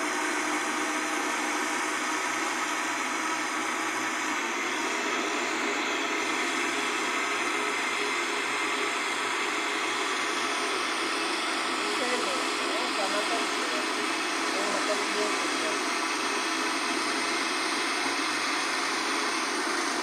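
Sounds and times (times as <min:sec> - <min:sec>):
blender whirring: 0:00.0 - 0:20.0.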